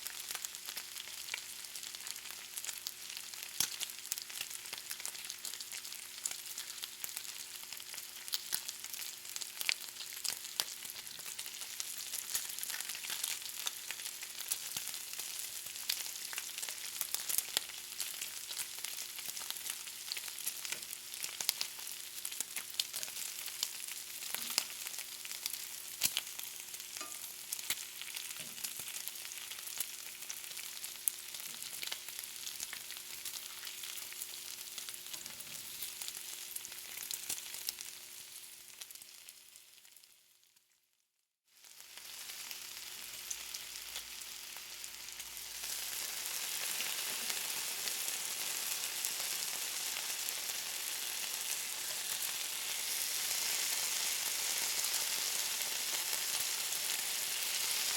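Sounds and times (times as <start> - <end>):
bacon sizzling and crackling: 0.0 - 40.2, 41.6 - 57.9.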